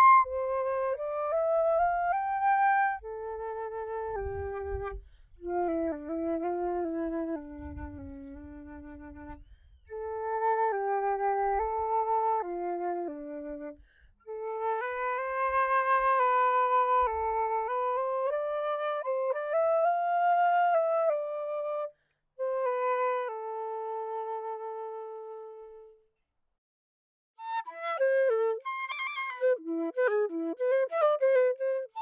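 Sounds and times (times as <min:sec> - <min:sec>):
wind instrument slow melody: 0:00.0 - 0:26.0.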